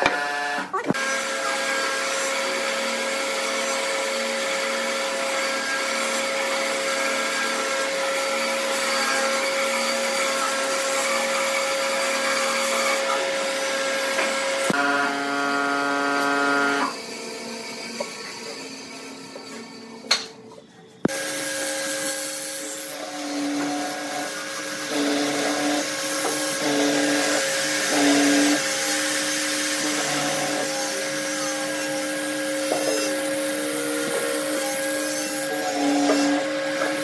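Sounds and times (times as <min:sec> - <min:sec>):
mortiser boring into wood: 0:00.0 - 0:17.0, 0:21.1 - 0:37.0.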